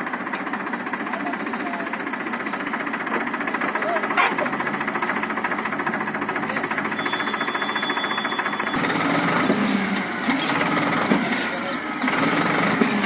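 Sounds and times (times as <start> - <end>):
tractor diesel engine knocking: 0.0 - 13.0.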